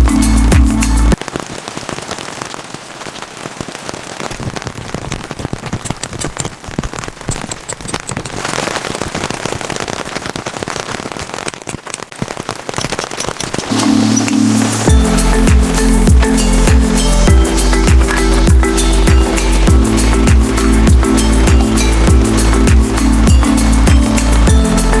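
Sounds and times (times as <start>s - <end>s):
rain pattering: 0.0s - 25.0s.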